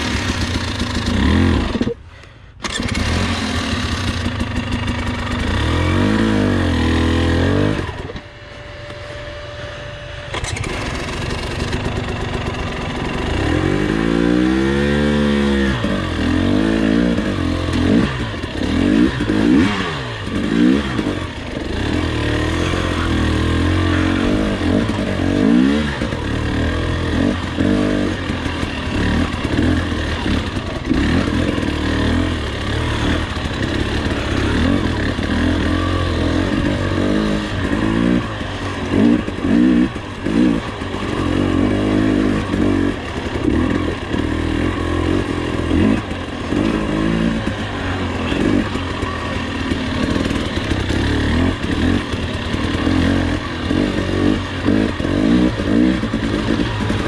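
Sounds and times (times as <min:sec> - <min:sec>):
clatter: 0:00.0 - 0:08.3, 0:10.3 - 0:57.0
dirt bike engine revving: 0:00.0 - 0:57.0.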